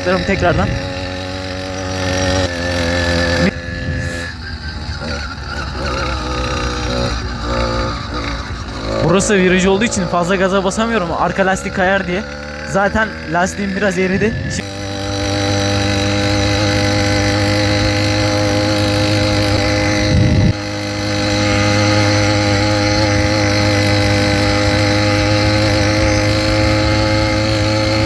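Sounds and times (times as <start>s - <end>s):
motorized bicycle engine running: 0.0s - 28.0s.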